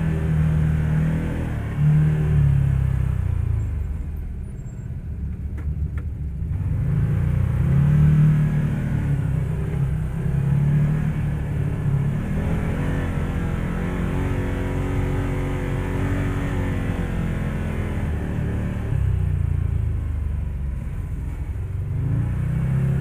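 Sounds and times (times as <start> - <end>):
engine running while driving: 0.0 - 23.0.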